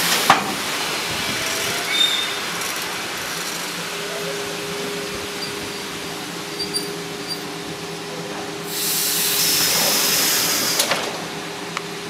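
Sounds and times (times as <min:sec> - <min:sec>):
train air brakes hissing: 0:00.0 - 0:07.6, 0:08.6 - 0:11.3.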